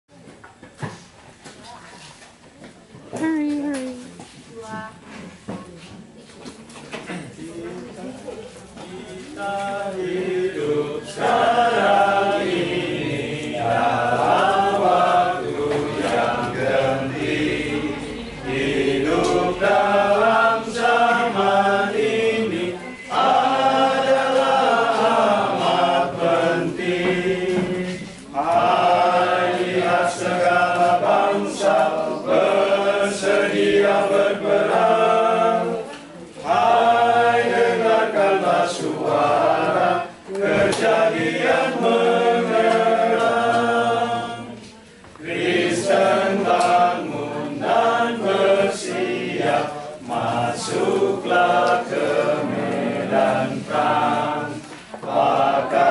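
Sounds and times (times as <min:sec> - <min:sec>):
group singing a hymn unaccompanied: 0:08.7 - 0:55.9.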